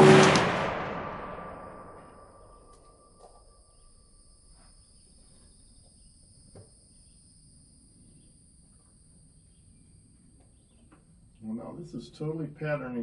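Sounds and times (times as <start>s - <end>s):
insects chirring: 1.2s - 12.5s.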